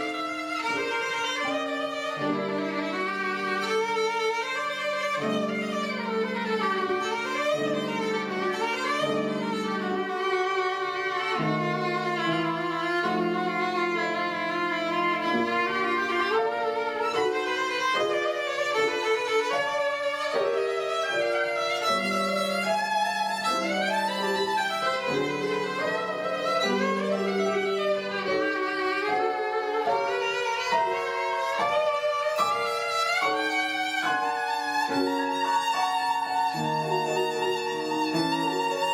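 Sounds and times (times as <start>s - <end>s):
violin playing slow melody: 0.0s - 38.9s.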